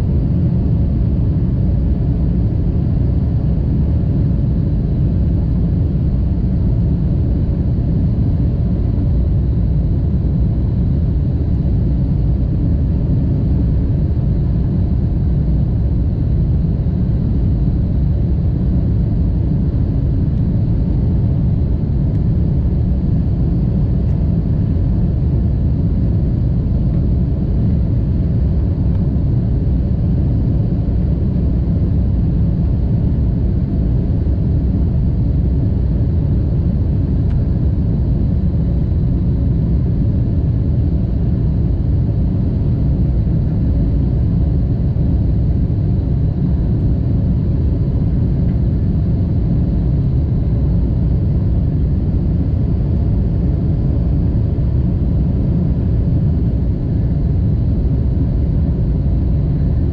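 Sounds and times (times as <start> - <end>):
airliner cabin noise in flight: 0.0 - 59.9.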